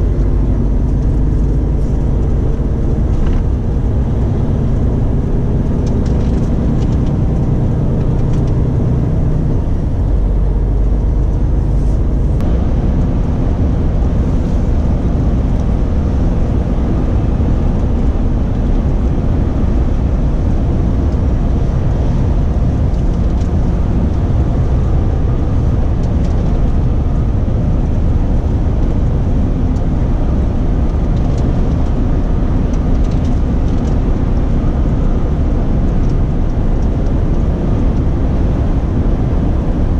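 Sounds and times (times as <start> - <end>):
diesel engine running: 0.0 - 39.9
road rumble: 0.0 - 39.9.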